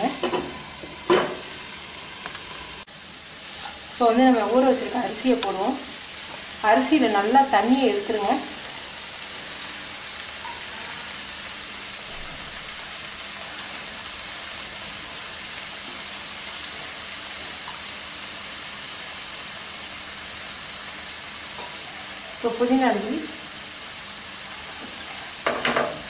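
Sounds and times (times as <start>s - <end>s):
vegetables and rice sizzling in oil: 0.0s - 26.0s.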